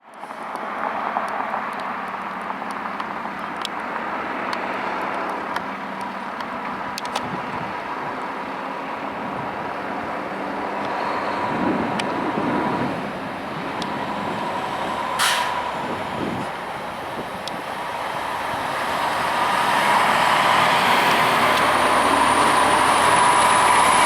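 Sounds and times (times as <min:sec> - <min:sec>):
vehicle engines and tyres: 0:00.0 - 0:24.0.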